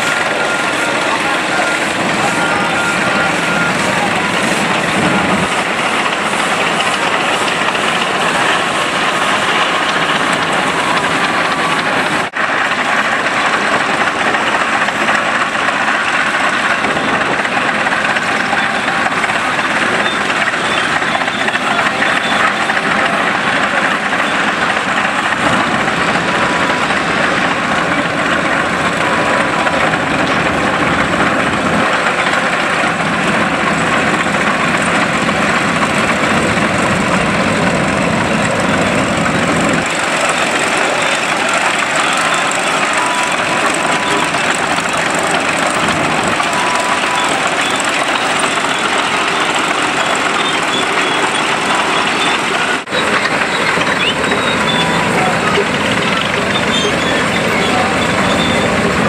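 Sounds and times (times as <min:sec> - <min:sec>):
old tractor running: 0:00.0 - 0:59.0
steam traction engines running: 0:00.0 - 0:59.0.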